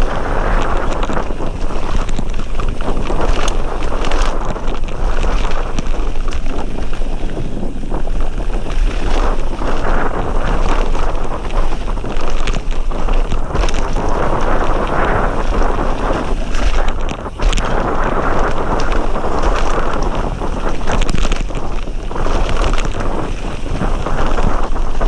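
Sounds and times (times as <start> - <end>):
bike clicks and rattles: 0.0 - 25.0
tyres crunching on gravel: 0.0 - 25.0
wind buffeting microphone: 0.0 - 25.0.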